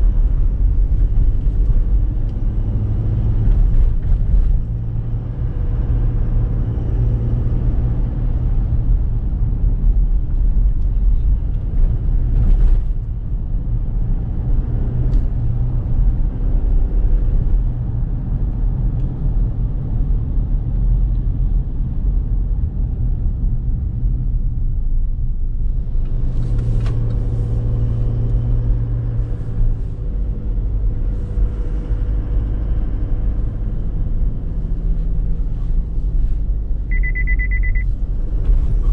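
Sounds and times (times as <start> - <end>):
diesel engine rumble: 0.0 - 38.9
road noise: 0.0 - 38.9.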